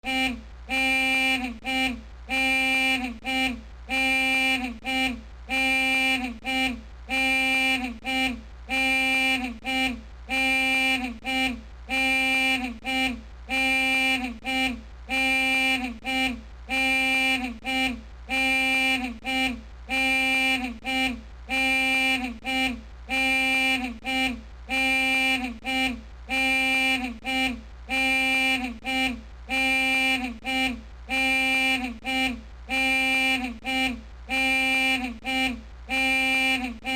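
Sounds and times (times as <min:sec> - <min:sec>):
horn-like tone blasts: 0:00.0 - 0:36.9.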